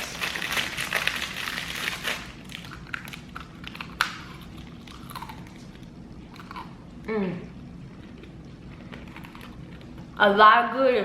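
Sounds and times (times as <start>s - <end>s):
fortune cookie crunching: 0.0s - 10.3s.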